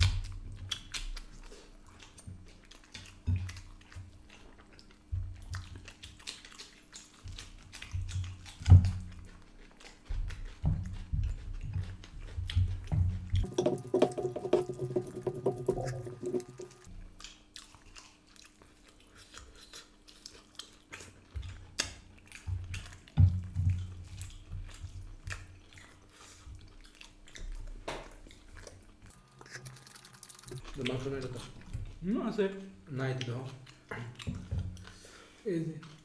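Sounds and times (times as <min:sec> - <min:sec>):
wet chewing and smacking: 0:00.0 - 0:36.0.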